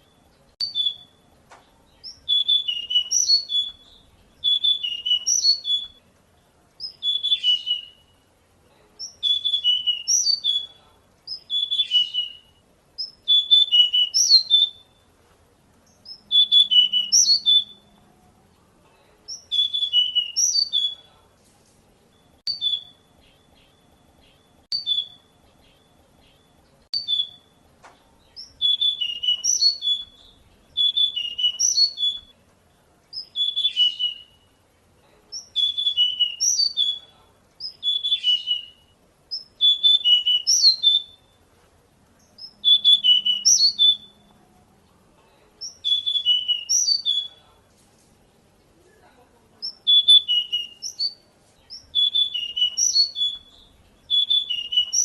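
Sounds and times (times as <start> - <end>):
bird singing chirps and warbles: 0.0 - 21.3, 22.0 - 47.6, 48.3 - 55.0.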